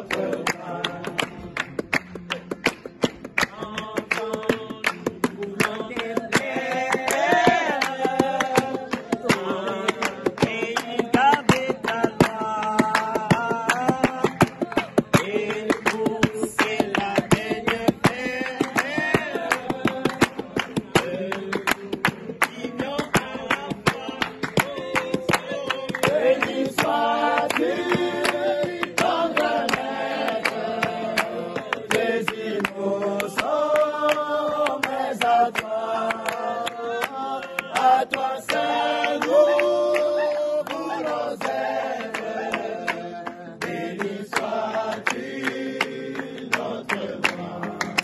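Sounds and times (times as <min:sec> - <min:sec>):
group singing a hymn: 0:00.0 - 0:02.2, 0:03.3 - 0:48.0.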